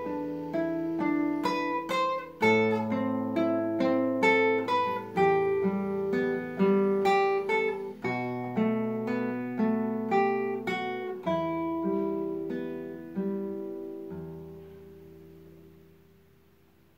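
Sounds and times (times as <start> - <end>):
acoustic guitar plucked notes: 0.0 - 16.9.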